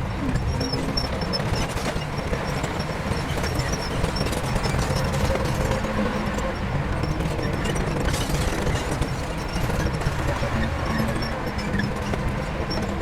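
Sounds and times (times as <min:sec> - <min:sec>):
diesel machinery engine rumble: 0:00.0 - 0:13.0
rapid rattling clatter: 0:00.2 - 0:13.0.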